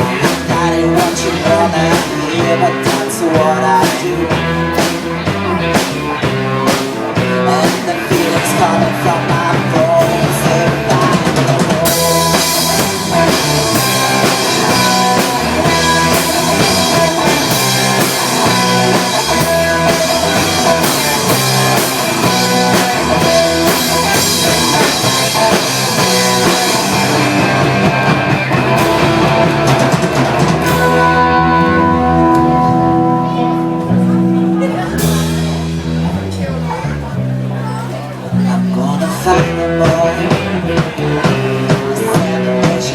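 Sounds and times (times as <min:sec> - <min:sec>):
held guitar notes: 0:00.0 - 0:42.9
rock band playing: 0:00.0 - 0:42.9.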